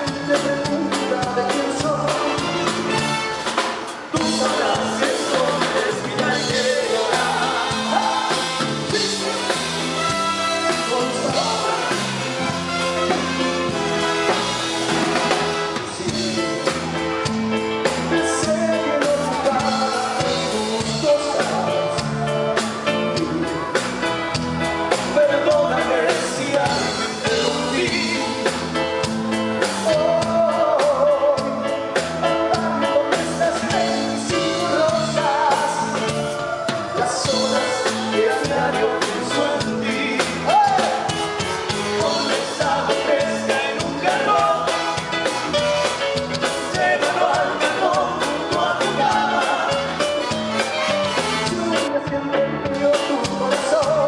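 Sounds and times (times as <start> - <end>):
man singing into a microphone: 0.0 - 3.3, 3.9 - 12.6, 15.6 - 45.8, 46.5 - 54.0
live band playing: 0.0 - 54.0.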